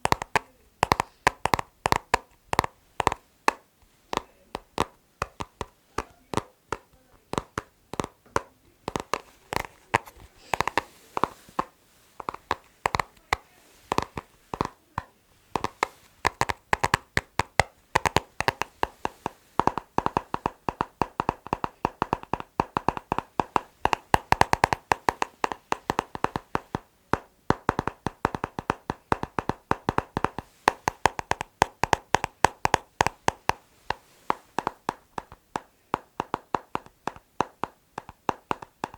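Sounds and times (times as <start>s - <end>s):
fingers tapping on hard object: 0.0s - 38.9s.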